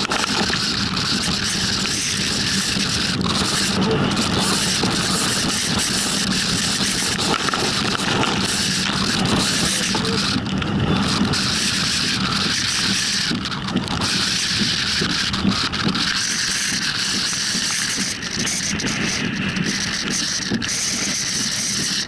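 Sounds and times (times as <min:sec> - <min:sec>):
vehicle driving on wet road: 0:00.0 - 0:22.0.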